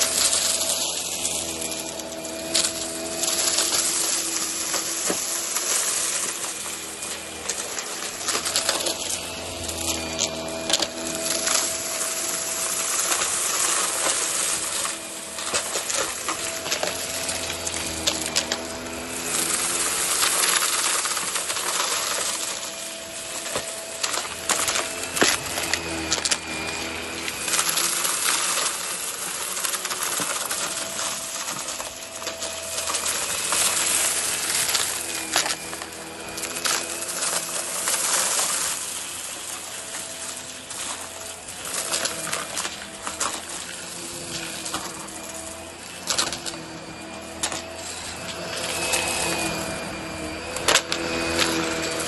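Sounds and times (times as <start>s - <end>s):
debris rattling in vacuum head: 0.0s - 52.0s
vacuum cleaner motor: 0.0s - 52.0s.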